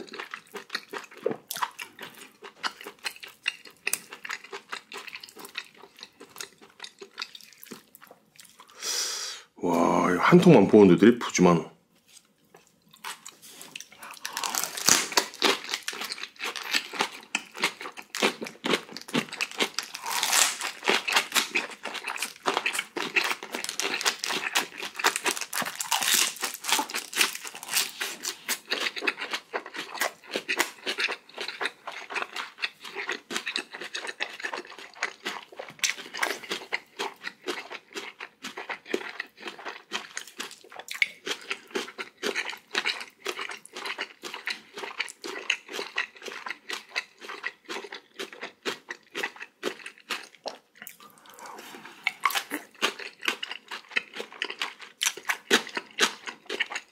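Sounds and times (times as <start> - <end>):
chewing crunchy food: 0.0 - 8.8, 12.0 - 56.9.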